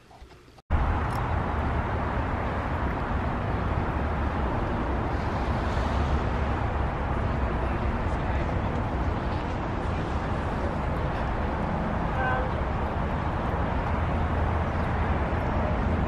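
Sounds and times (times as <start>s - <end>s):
traffic hiss on wet road: 0.8s - 16.0s.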